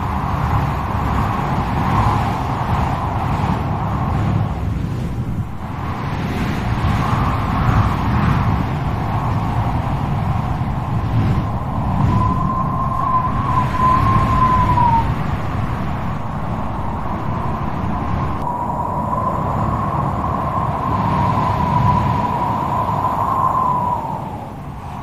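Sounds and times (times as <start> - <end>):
strong wind rumbling: 0.0 - 25.0
wind whistling howl: 0.0 - 25.0.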